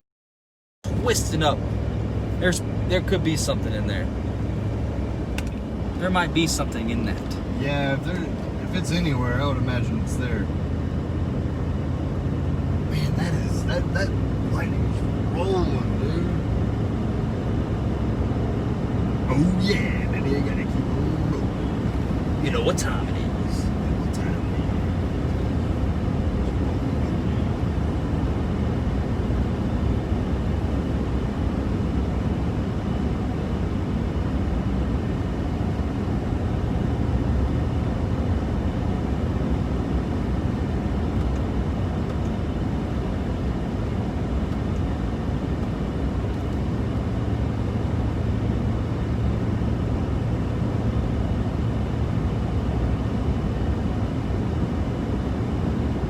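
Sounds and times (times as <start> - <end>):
truck cab road and engine drone: 0.8 - 56.0.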